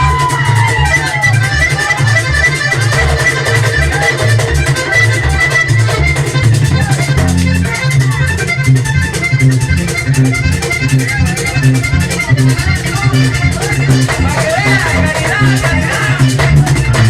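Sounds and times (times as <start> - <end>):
accordion lead: 0.0 - 17.0
bass line: 0.0 - 17.0
fast percussion rhythm: 0.0 - 17.0.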